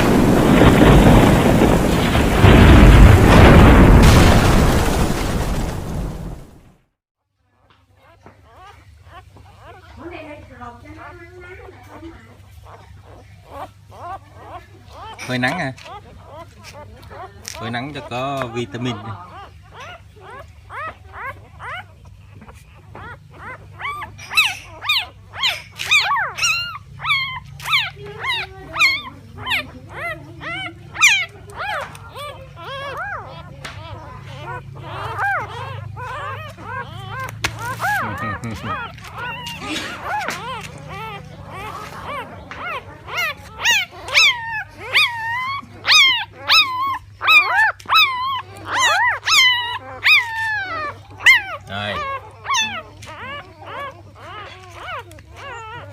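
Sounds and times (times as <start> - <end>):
puppies whimpering and squeaking: 7.6 - 55.9.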